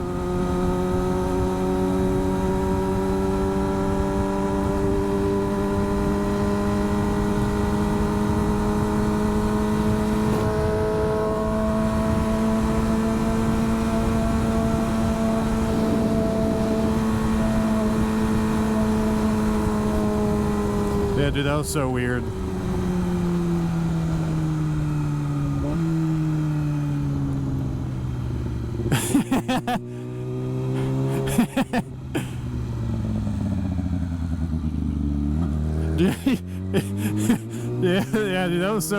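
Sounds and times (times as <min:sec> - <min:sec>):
road and wind noise: 0:00.0 - 0:38.9
vehicle engine drone: 0:00.0 - 0:38.9.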